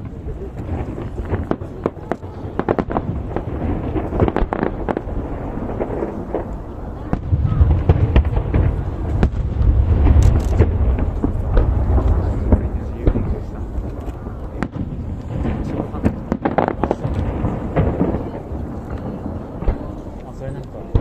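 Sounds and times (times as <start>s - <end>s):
deep fireworks booms: 0.0s - 21.0s
fireworks cracking: 0.0s - 21.0s.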